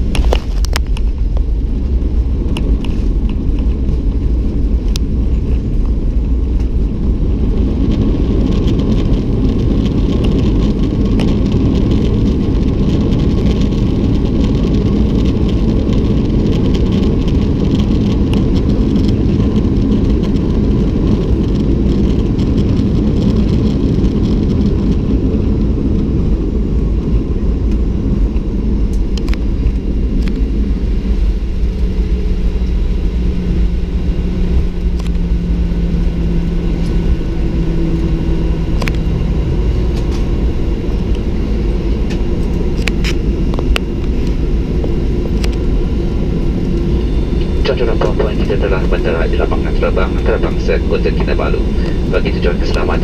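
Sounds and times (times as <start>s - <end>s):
airplane cabin rumble: 0.0s - 53.0s.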